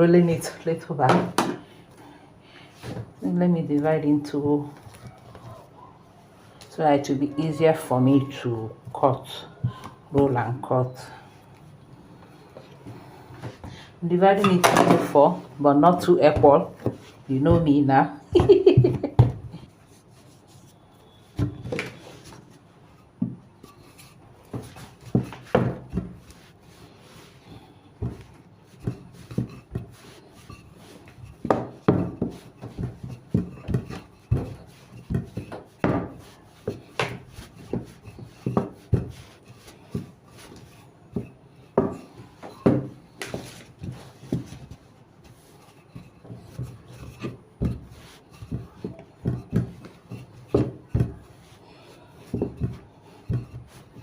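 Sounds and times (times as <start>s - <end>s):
dough kneaded on wooden board: 0.0s - 54.0s.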